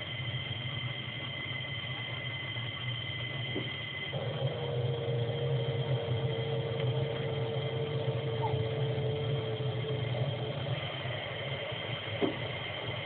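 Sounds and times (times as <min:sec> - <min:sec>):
constant high whine: 0:00.0 - 0:13.0
low machinery hum: 0:00.0 - 0:13.0
mid-pitched steady tone: 0:00.0 - 0:13.0.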